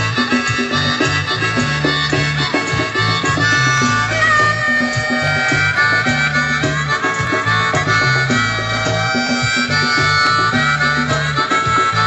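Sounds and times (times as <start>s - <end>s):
bass line: 0.0s - 12.0s
harmonica melody: 0.0s - 12.0s
plucked accompaniment: 0.0s - 12.0s.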